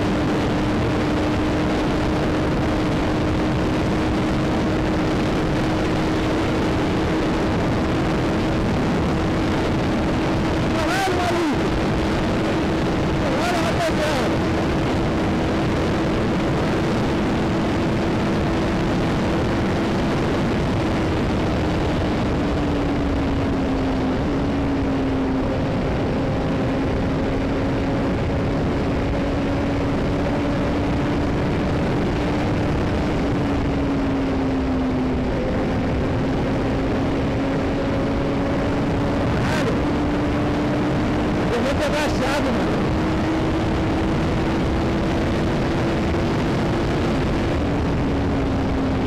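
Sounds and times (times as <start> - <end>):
motorcycle engine cruising: 0.0 - 49.0
wind rush on microphone: 0.0 - 49.0.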